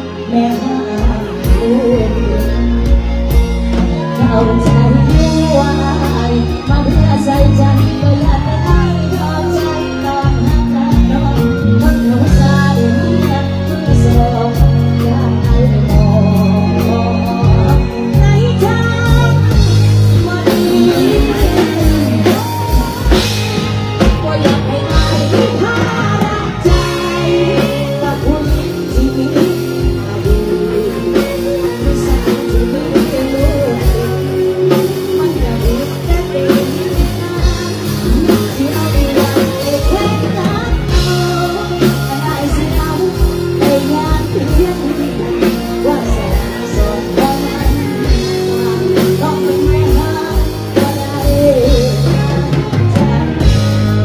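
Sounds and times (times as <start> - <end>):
live band with driving drum beat: 0.0 - 54.0
woman singing into microphone: 0.0 - 54.0.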